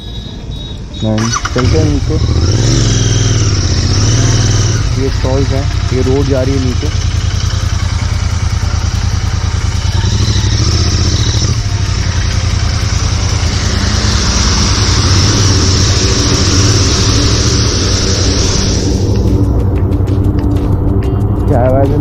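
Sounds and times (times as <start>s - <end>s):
motorcycle engine running: 0.7s - 22.0s.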